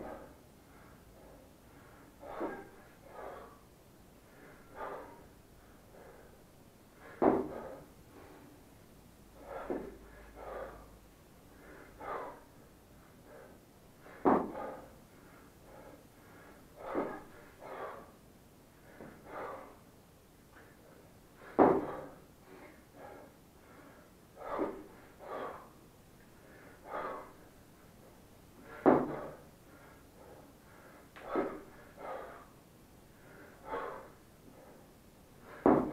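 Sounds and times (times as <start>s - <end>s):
man breathing hard: 0.0s - 35.9s.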